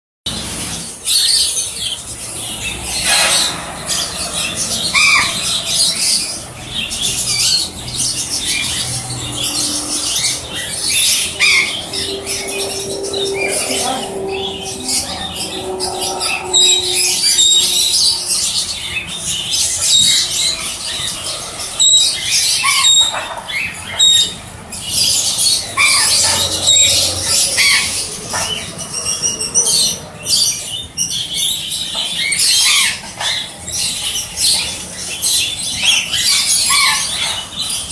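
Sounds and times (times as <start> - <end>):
canary singing: 0.3 - 37.9.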